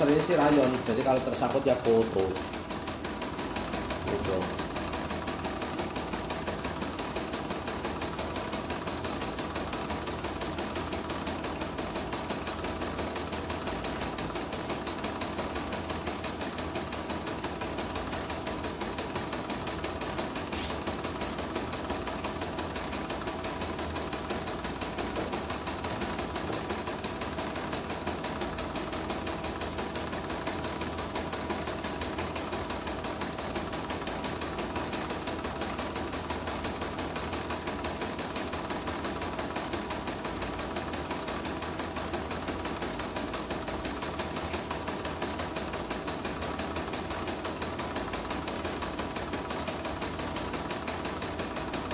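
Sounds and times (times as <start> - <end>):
embroidery machine stitching: 0.0 - 51.9.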